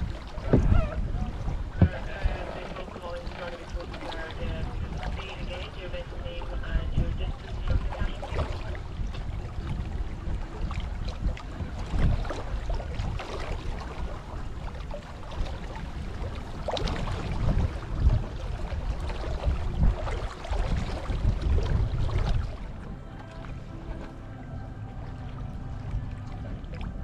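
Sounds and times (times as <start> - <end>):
water splashing along hull: 0.0 - 27.0
wind buffeting microphone: 0.0 - 27.0.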